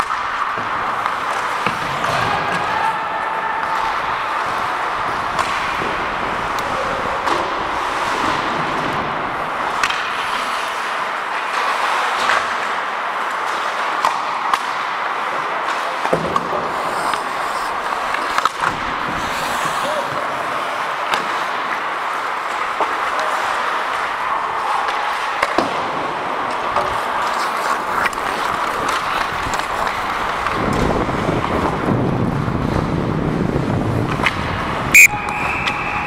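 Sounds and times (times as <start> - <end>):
skates scraping ice: 0.0 - 36.0
sticks and puck clacking: 0.0 - 36.0.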